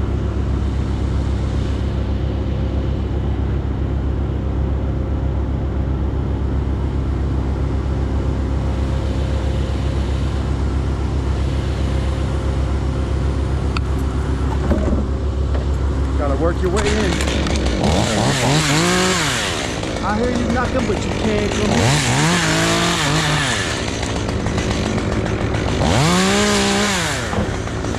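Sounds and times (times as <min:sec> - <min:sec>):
engine running steadily: 0:00.0 - 0:27.9.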